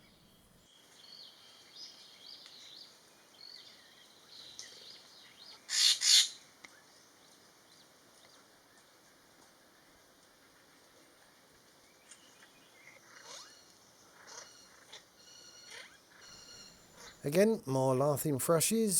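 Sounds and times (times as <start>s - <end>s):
birds singing faintly: 0.0s - 18.7s.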